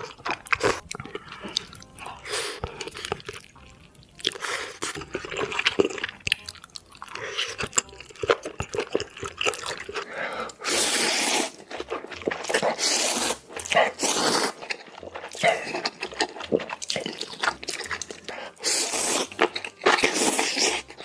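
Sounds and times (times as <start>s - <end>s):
person chewing wetly: 0.0s - 21.0s.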